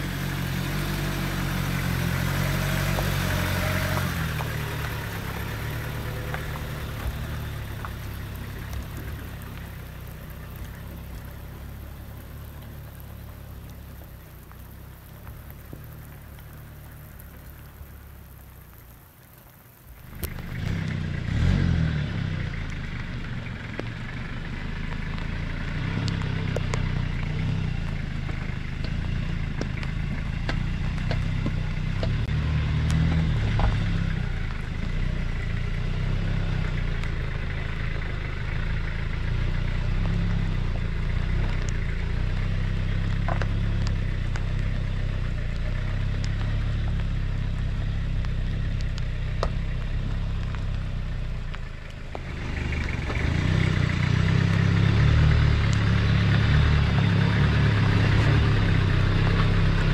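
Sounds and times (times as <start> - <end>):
diesel engine running under load: 0.0 - 59.9
stones clicking under tyres: 0.0 - 59.9.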